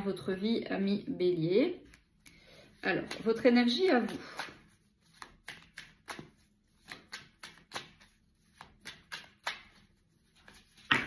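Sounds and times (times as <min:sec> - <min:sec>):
cards being shuffled: 0:01.8 - 0:11.0.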